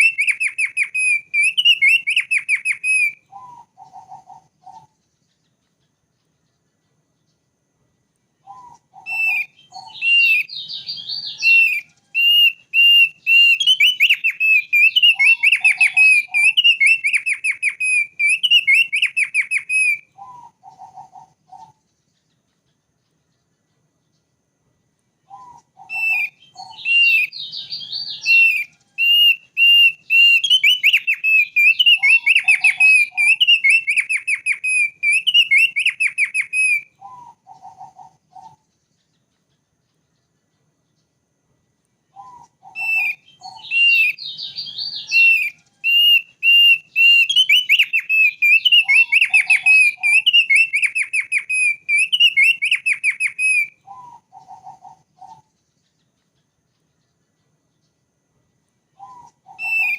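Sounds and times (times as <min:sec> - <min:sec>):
bird singing whistled trills: 0:00.0 - 0:07.5, 0:08.3 - 0:24.4, 0:25.2 - 0:41.2, 0:42.0 - 0:58.1, 0:58.9 - 0:59.9.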